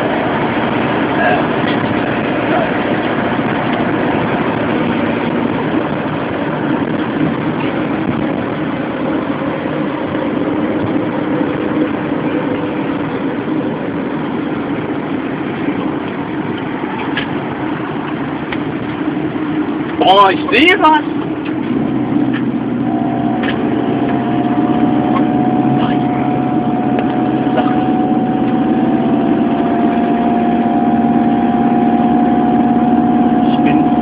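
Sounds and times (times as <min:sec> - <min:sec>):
engine drone: 0:00.0 - 0:34.0
tyre noise on wet road: 0:00.0 - 0:34.0.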